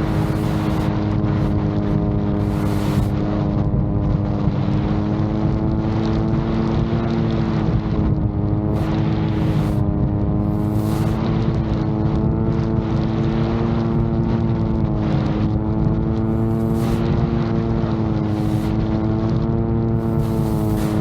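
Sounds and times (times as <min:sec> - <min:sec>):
drone propellers droning: 0:00.0 - 0:21.0
wind buffeting microphone: 0:00.0 - 0:21.0.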